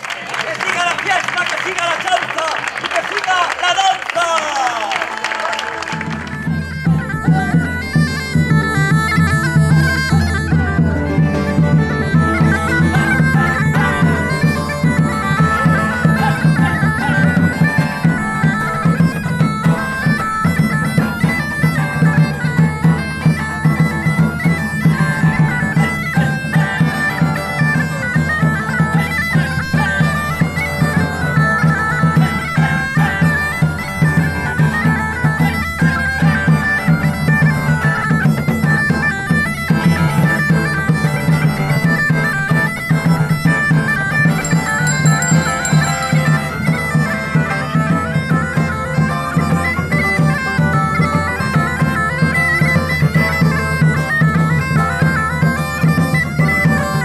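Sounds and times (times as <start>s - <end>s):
bagpipe music: 5.7s - 57.0s.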